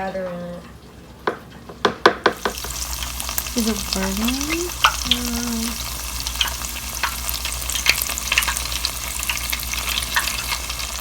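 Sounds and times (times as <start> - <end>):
deep-frying sizzle with crackling pops: 0.0 - 11.0.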